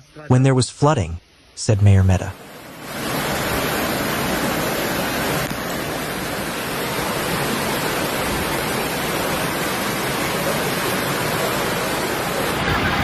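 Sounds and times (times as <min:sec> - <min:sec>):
rushing floodwater: 0:02.4 - 0:13.0.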